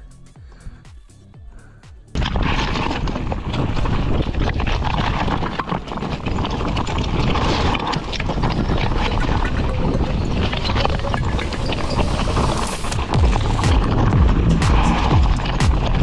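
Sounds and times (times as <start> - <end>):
bike rattling over stones: 2.2 - 16.0
rushing noise: 2.2 - 16.0.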